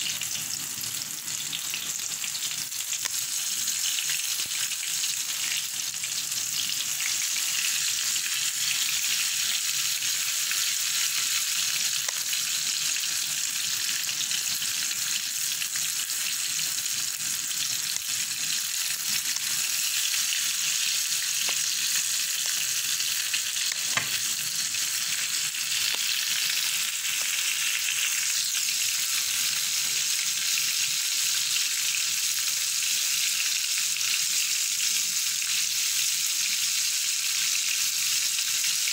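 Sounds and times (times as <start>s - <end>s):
food deep-frying in oil: 0.0s - 38.9s.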